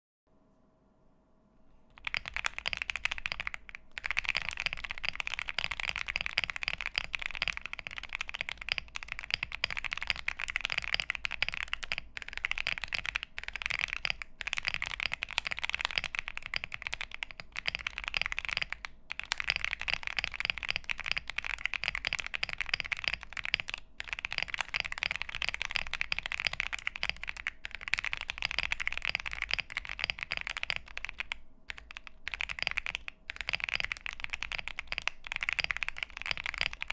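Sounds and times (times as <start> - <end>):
mechanical keyboard typing: 1.9 - 36.9.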